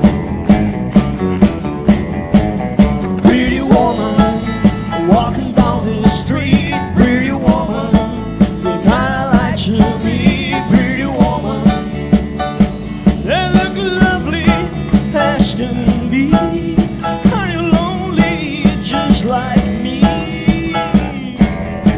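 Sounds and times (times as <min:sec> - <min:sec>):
bass guitar: 0:00.0 - 0:21.9
drums steady beat: 0:00.0 - 0:21.9
electric guitar sliding lead lines: 0:00.0 - 0:21.9.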